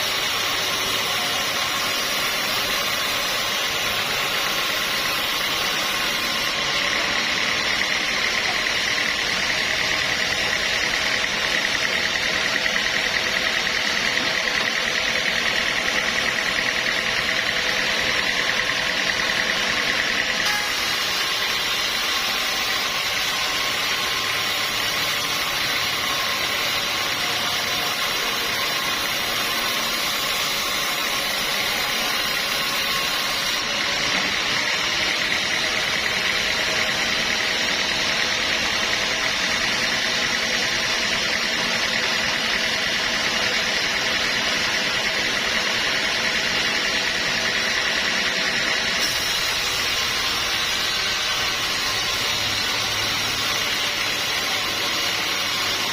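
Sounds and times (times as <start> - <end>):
sawmill machinery whine: 0.0 - 55.9.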